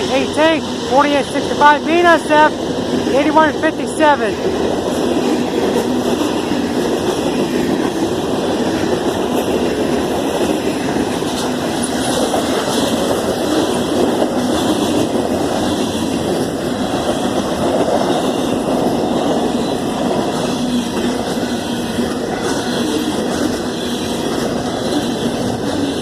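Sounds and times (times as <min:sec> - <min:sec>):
rail joints clicking: 0:00.0 - 0:26.0
train wheels rumbling on rails: 0:00.0 - 0:26.0.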